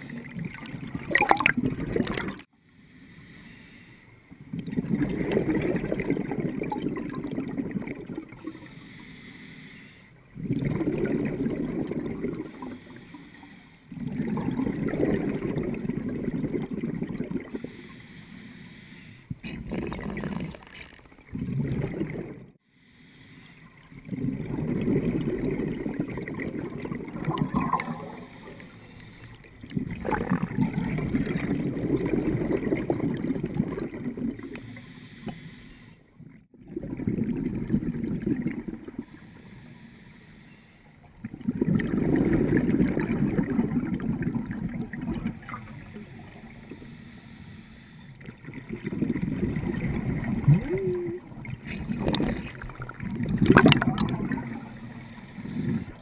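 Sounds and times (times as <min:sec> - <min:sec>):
underwater regulator bubbles: 0:00.0 - 0:02.5, 0:04.5 - 0:08.8, 0:10.3 - 0:18.0, 0:19.3 - 0:22.6, 0:23.9 - 0:35.5, 0:36.2 - 0:39.2, 0:41.1 - 0:47.1, 0:48.2 - 0:56.0.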